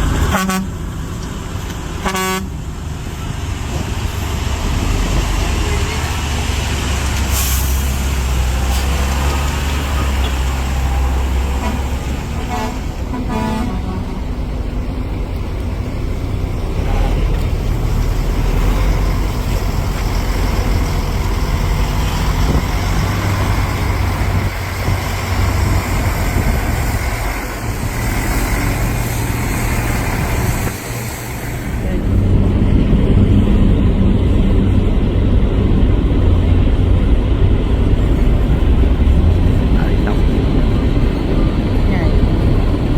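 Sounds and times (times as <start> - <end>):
excavator diesel engine working: 0.0 - 42.9
heavy truck engine: 0.0 - 42.9.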